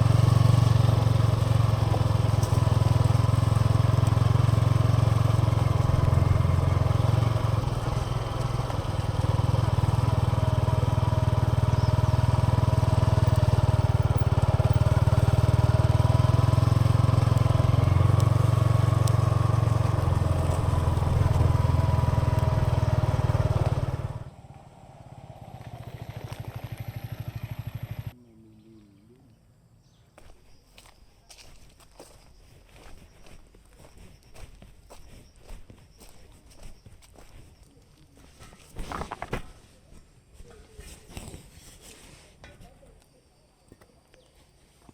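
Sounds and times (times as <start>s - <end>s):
motorcycle engine running: 0.0s - 28.2s, 30.2s - 41.4s.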